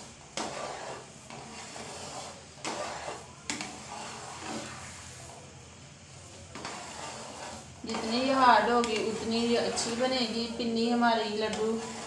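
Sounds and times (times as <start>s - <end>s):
syrup bubbling and hissing: 0.0s - 10.6s
wooden spatula scraping pan: 0.0s - 12.0s.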